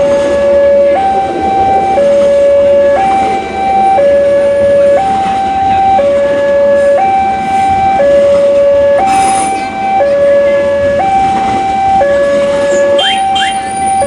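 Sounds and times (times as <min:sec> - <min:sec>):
two-tone warning siren: 0:00.0 - 0:14.0.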